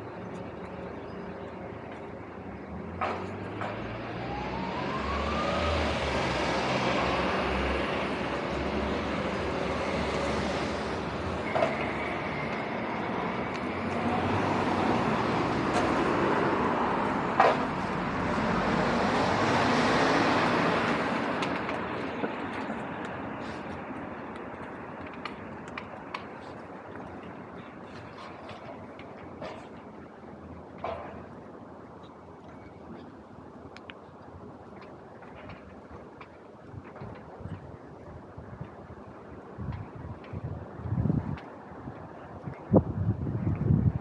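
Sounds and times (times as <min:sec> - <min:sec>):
vehicles passing close by: 0:00.0 - 0:44.0.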